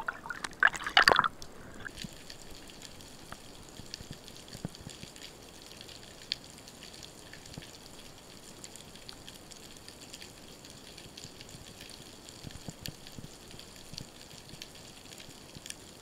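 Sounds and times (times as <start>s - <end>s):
fine clicks and crackles: 0.1s - 16.0s.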